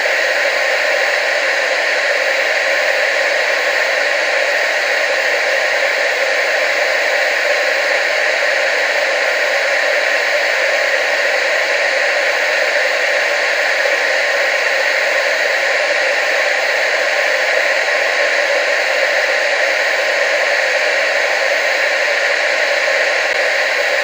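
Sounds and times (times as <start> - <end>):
tv static hiss: 0.0 - 24.0.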